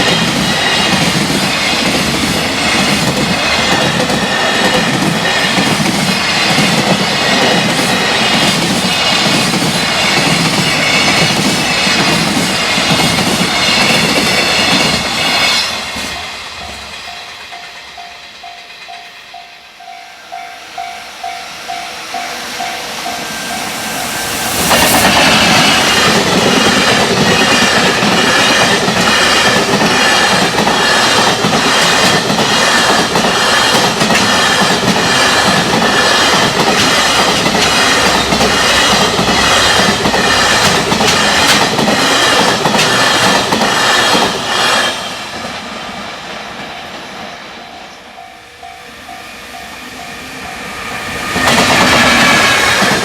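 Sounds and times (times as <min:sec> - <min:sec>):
train wheels clattering on rails: 0:00.0 - 0:48.3, 0:49.1 - 0:53.0.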